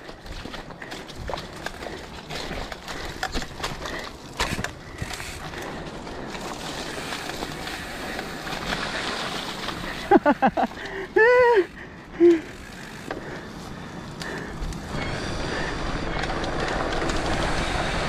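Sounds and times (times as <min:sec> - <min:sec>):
bike knocking and rattling: 0:00.0 - 0:18.0
bike tyres rushing on dirt: 0:00.0 - 0:18.0.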